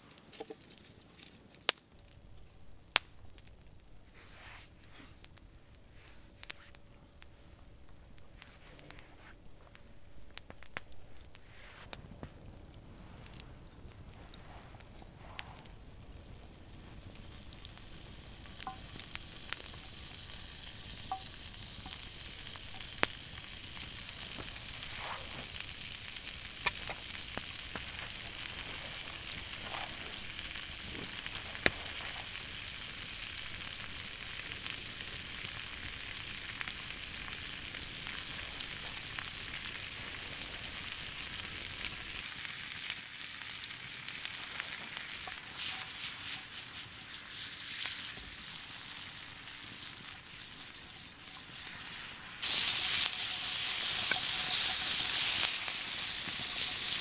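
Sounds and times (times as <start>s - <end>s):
log fire crackling: 0.0s - 57.0s
food sizzling in frying pan: 10.3s - 57.0s.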